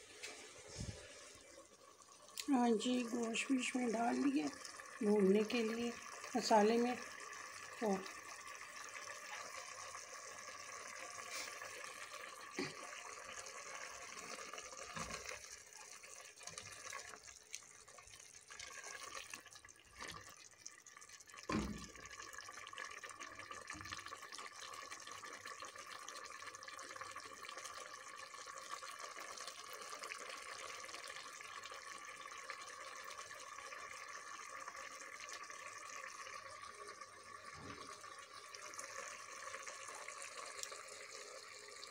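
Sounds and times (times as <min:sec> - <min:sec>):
meat sizzling in a pot: 0:00.0 - 0:41.9.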